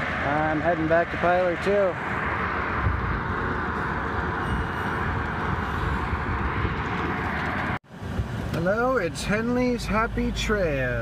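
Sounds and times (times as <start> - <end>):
vehicle road and engine noise: 0.0 - 11.0.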